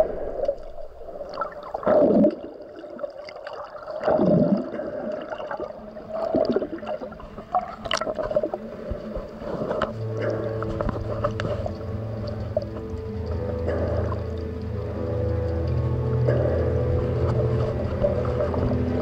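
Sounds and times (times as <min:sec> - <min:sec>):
underwater sloshing and bubbling: 0:00.0 - 0:19.0.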